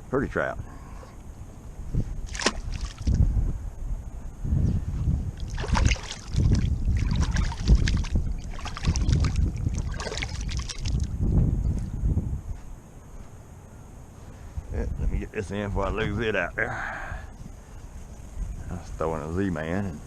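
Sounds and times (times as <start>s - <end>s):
gusty wind buffeting microphone: 0.6s - 12.9s, 14.3s - 19.4s.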